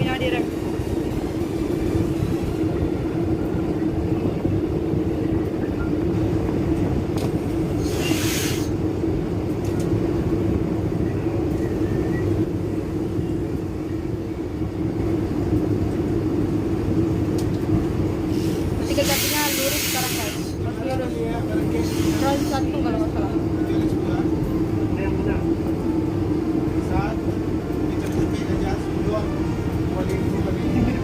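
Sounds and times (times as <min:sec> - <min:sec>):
train rumbling inside carriage: 0:00.0 - 0:31.0.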